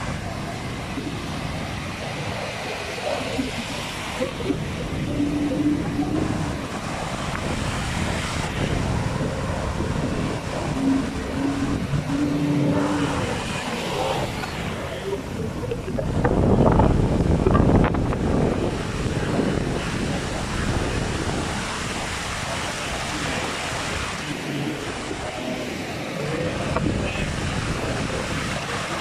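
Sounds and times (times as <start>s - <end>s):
outboard engines running: 0.0s - 29.0s
wind noise: 0.0s - 29.0s.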